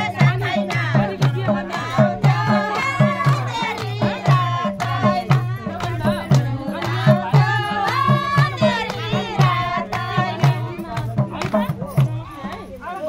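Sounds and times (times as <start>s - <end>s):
steady drum beat: 0.0s - 12.8s
hand claps: 0.0s - 13.0s.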